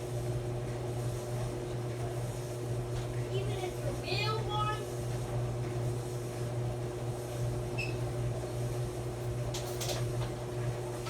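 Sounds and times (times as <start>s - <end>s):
clothes dryer running: 0.0s - 11.0s.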